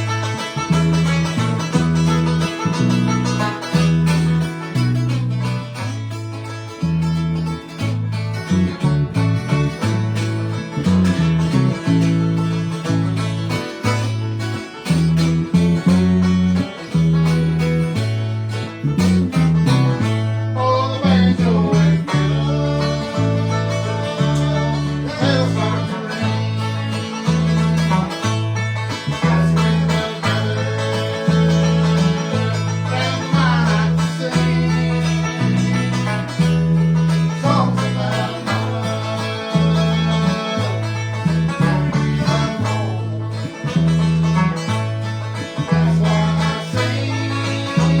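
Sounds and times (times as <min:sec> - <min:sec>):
banjo picking: 0:00.0 - 0:48.0
bass line: 0:00.0 - 0:48.0
guitar picking: 0:00.0 - 0:48.0.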